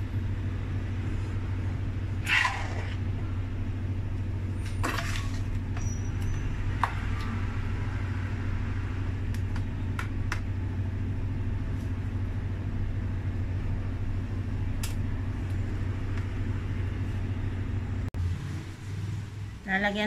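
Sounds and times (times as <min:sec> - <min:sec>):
machine hum: 0:00.0 - 0:19.7.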